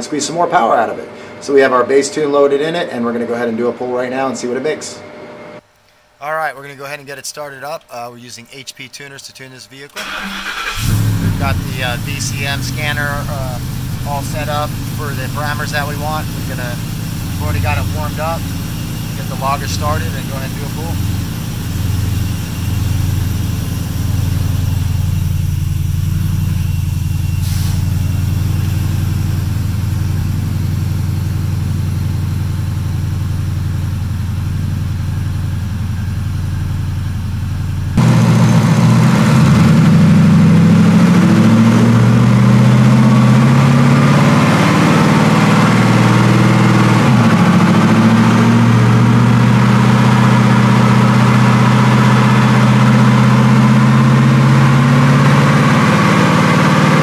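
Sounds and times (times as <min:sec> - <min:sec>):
truck engine idling: 0:10.0 - 0:57.0.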